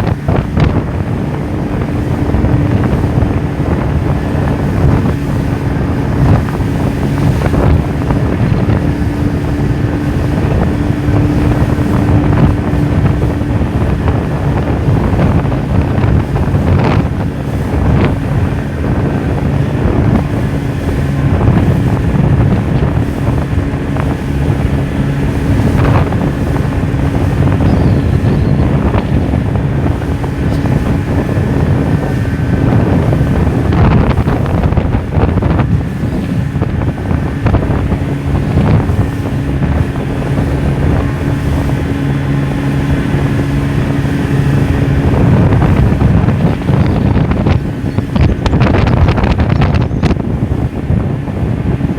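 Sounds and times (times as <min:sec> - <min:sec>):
boat motor running: 0:00.0 - 0:51.9
short splashes: 0:00.0 - 0:51.9
water rushing: 0:00.0 - 0:51.9
wind buffeting microphone: 0:00.0 - 0:51.9.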